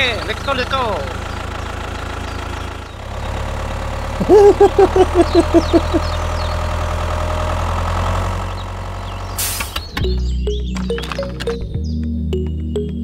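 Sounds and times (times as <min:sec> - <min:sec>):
tractor engine idling: 0:00.0 - 0:11.6.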